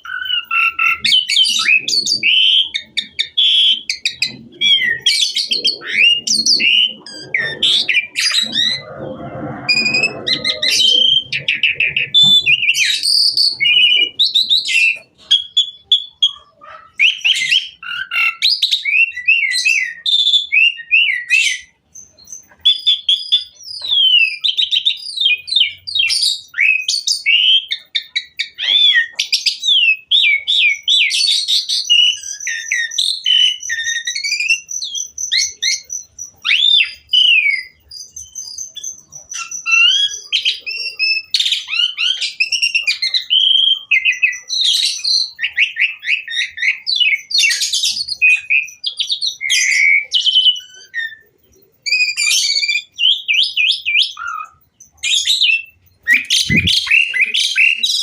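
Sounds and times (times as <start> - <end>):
starling singing varied song: 0.0 - 58.0.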